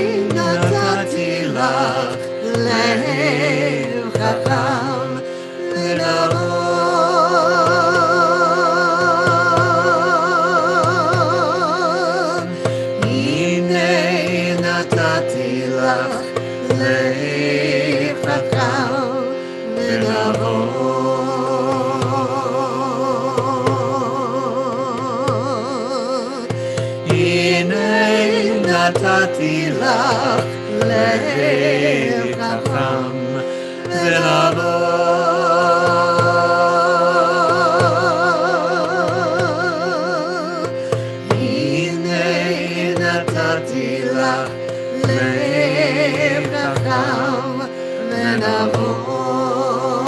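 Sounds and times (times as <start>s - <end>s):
instrumental drone: 0.0s - 50.0s
person chanting melody: 0.0s - 50.0s.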